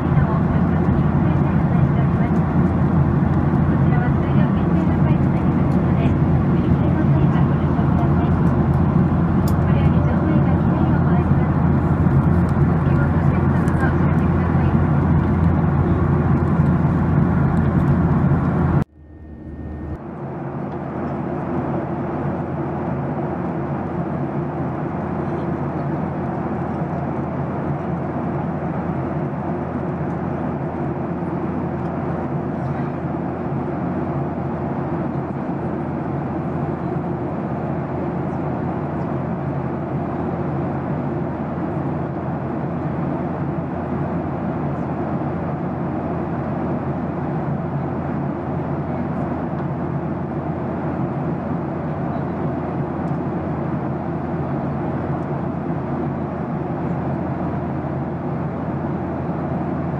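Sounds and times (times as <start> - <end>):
jet airliner cabin noise: 0.0 - 59.9.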